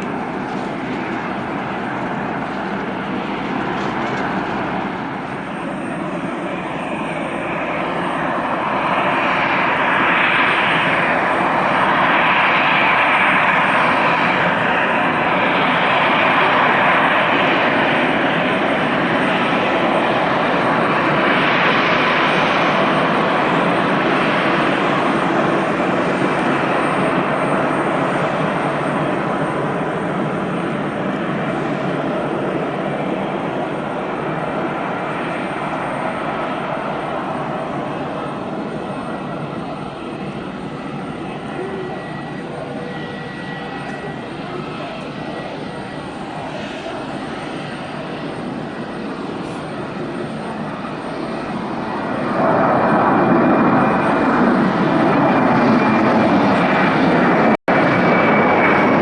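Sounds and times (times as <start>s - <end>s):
jet engines at takeoff: 0.0s - 59.0s.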